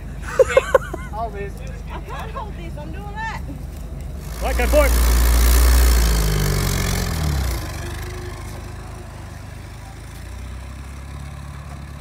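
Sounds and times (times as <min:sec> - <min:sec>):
jeep engine revving and idling: 0:00.0 - 0:12.0.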